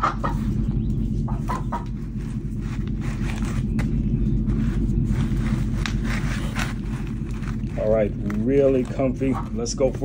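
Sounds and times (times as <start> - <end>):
low humming rumble: 0.0 - 10.0.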